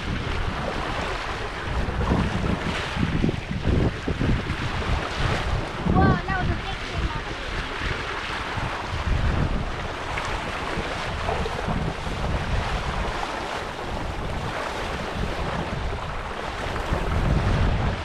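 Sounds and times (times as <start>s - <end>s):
water rushing: 0.0s - 18.0s
wind buffeting microphone: 0.0s - 18.0s.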